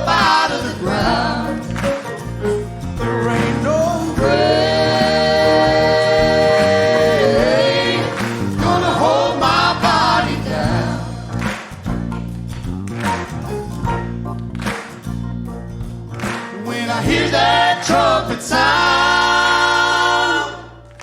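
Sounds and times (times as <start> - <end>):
gospel band playing: 0.0 - 21.0.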